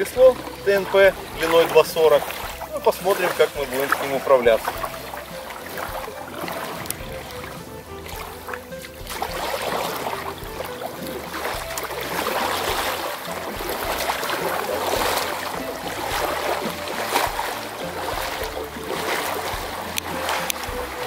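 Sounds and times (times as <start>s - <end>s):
paddle splashing in water: 0.0s - 21.0s
water lapping around hull: 0.0s - 21.0s.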